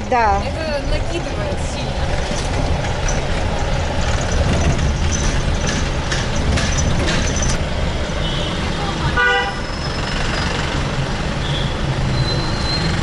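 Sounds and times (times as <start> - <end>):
traffic and wind hiss: 0.0 - 13.0
vehicle engine rumble: 0.0 - 13.0.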